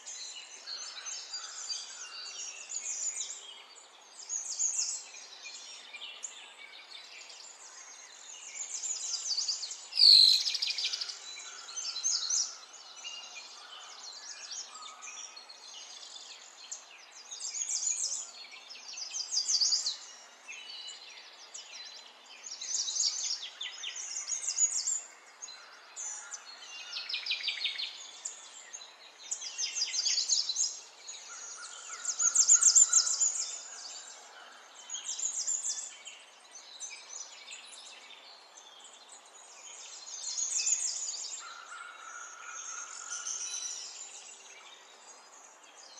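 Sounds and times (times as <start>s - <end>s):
birds chirping and trilling: 0.1s - 45.9s.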